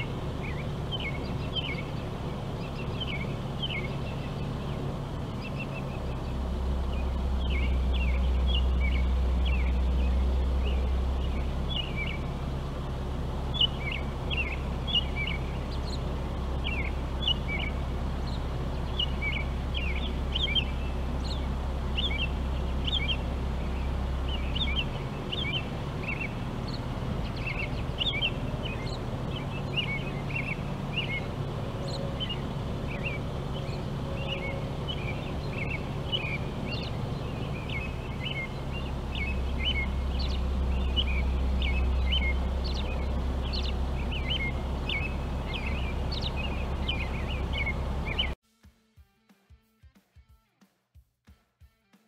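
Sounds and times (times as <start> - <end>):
low background rumble: 0.0 - 48.4
songbirds chirping: 0.0 - 48.4.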